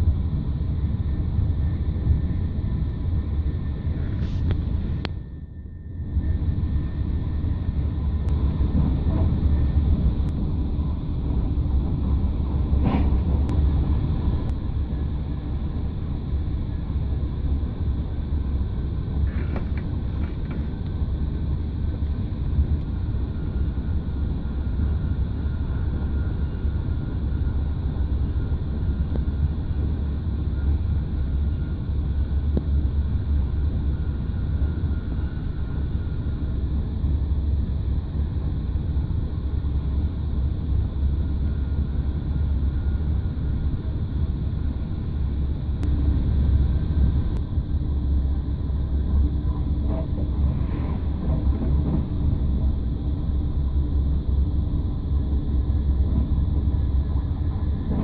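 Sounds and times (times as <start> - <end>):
train rumble from inside coach: 0.0 - 58.0.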